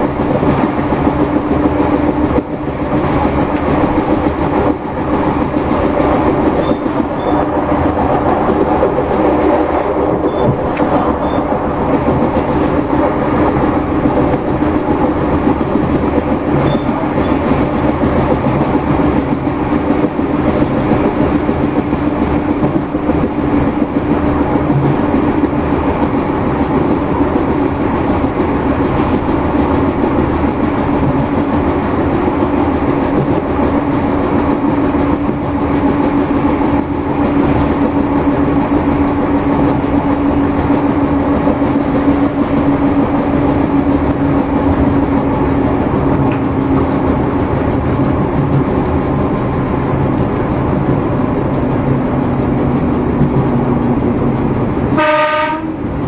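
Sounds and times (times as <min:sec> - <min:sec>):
diesel engine drone: 0:00.0 - 0:56.0
wheels running on rails: 0:00.0 - 0:56.0
wind: 0:00.0 - 0:56.0.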